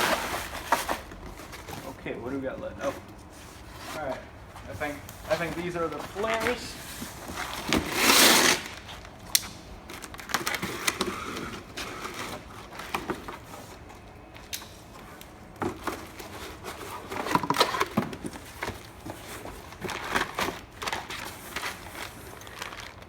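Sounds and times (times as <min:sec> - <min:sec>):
packaging rustling: 0:02.8 - 0:23.0.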